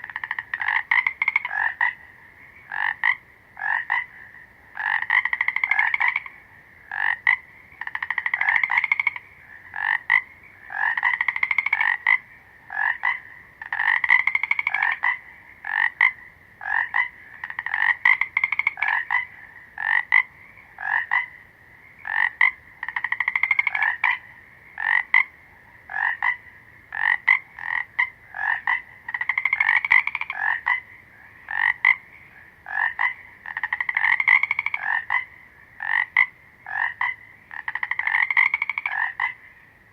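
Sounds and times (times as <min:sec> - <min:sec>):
frogs calling: 0:00.0 - 0:39.9
frogs croaking: 0:00.0 - 0:39.9.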